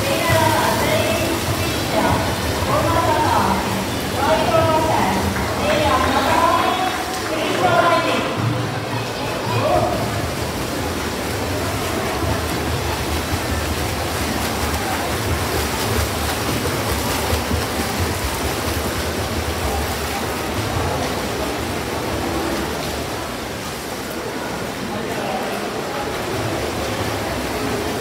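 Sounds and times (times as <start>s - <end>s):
swimmers splashing water: 0.0s - 28.0s.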